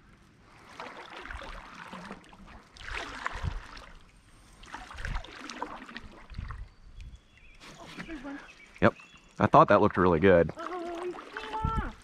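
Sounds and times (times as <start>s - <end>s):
canoe paddle swishing water: 0.0s - 9.4s, 10.5s - 12.0s.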